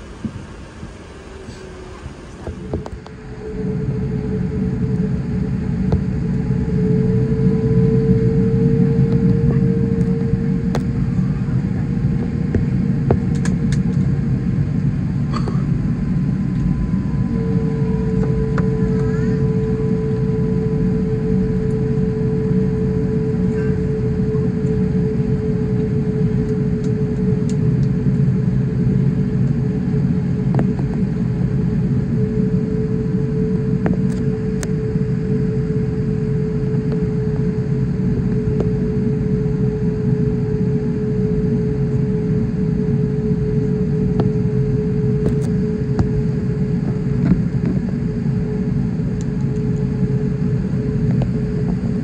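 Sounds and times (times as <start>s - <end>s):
aircraft engines rumbling: 0.0s - 52.0s
steady humming tone: 0.0s - 52.0s.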